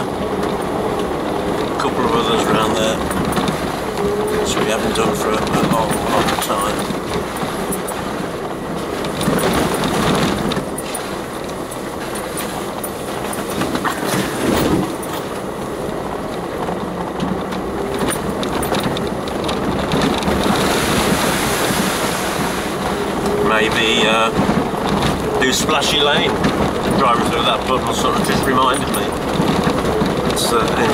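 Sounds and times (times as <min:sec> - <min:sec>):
knocks and rattles: 0:00.0 - 0:21.8, 0:22.7 - 0:30.9
tyre and body noise: 0:00.0 - 0:30.9
vehicle engine running steadily: 0:00.0 - 0:30.9.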